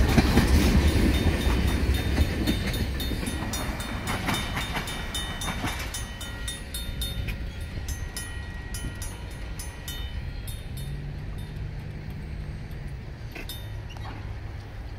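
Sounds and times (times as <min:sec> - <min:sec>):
railroad crossing bells ringing: 0:00.0 - 0:14.9.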